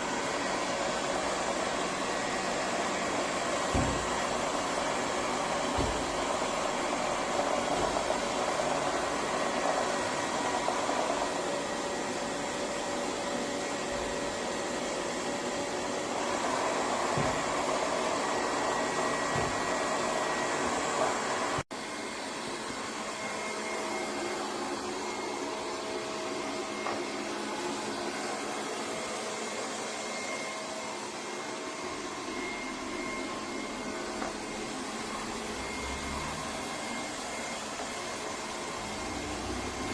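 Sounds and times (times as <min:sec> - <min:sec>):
robot vacuum humming: 0:00.0 - 0:39.9.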